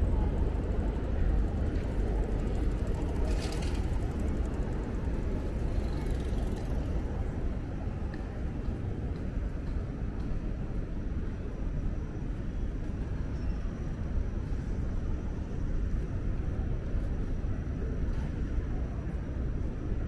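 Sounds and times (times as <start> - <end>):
traffic: 0.0 - 20.0
wind: 0.0 - 20.0.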